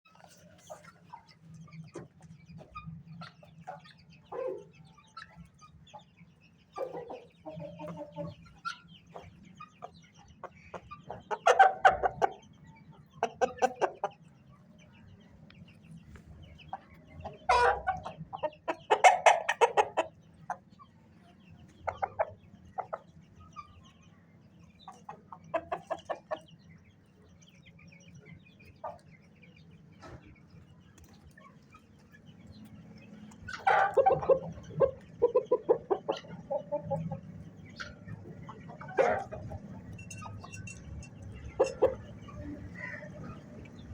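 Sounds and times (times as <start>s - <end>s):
chicken clucking: 0.1s - 43.9s.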